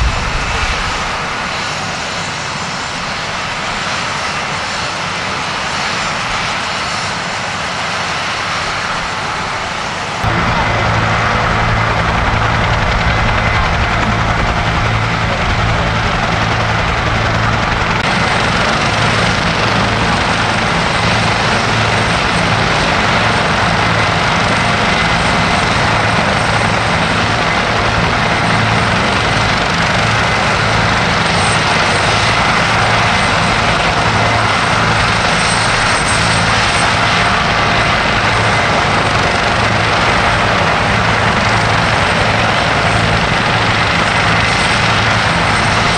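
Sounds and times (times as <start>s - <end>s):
helicopter rotor beat: 0.0s - 45.9s
turbine whine: 0.0s - 45.9s.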